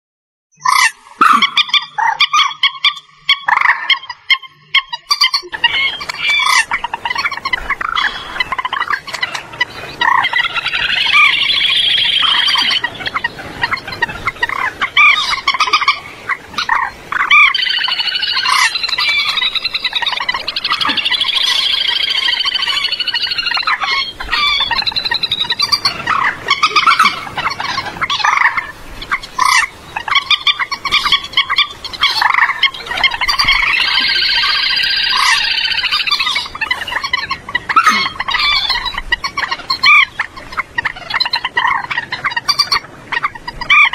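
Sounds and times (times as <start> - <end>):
moorhen calling: 0.6 - 43.9.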